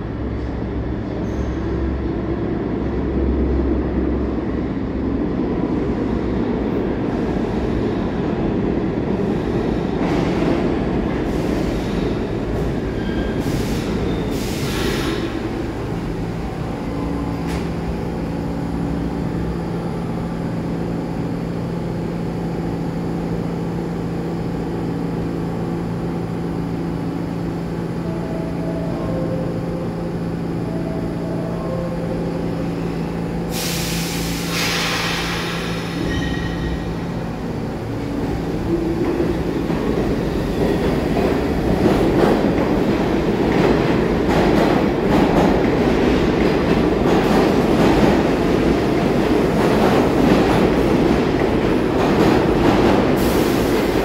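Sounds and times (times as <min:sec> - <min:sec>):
subway train rumbling: 0:00.0 - 0:54.0.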